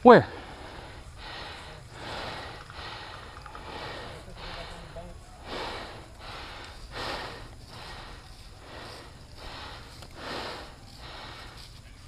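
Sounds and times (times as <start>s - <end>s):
person breathing heavily: 0.0s - 11.8s.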